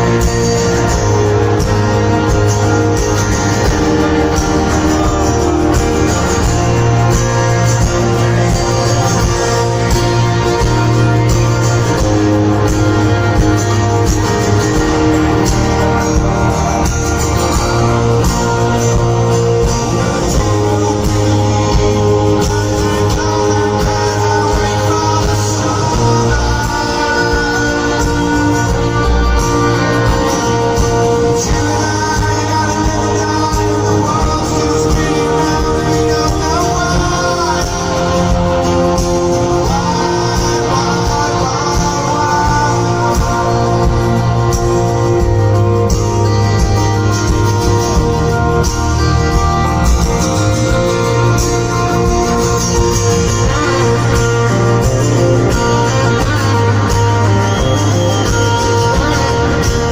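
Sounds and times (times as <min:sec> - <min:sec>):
live rock band music: 0:00.0 - 0:59.9
person singing: 0:00.0 - 0:59.9.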